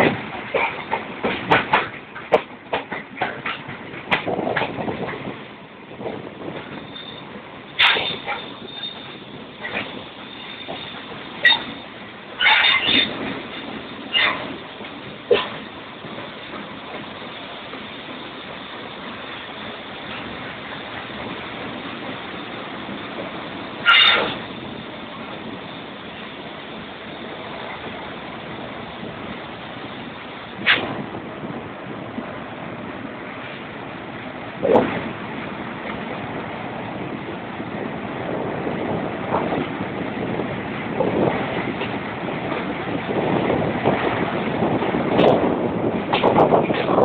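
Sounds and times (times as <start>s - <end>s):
train running noise: 0.0s - 47.0s.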